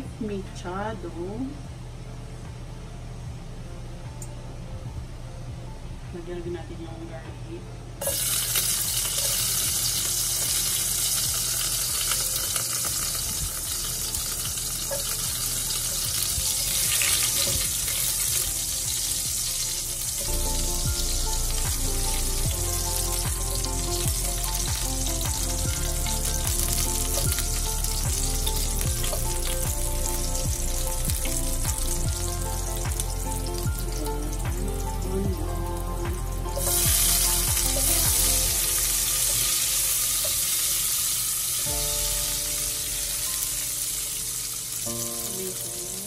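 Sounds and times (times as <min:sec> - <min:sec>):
background music: 0:00.0 - 0:46.0
garlic sizzling in hot oil: 0:08.0 - 0:35.1, 0:35.8 - 0:46.0.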